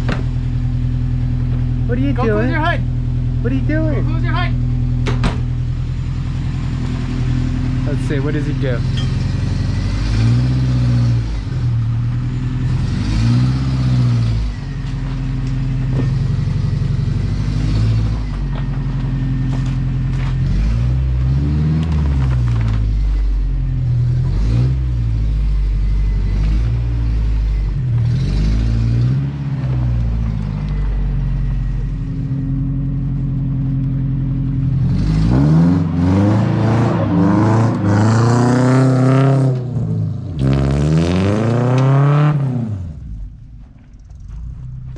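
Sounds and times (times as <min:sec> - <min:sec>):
pickup engine revving: 0:00.0 - 0:43.2.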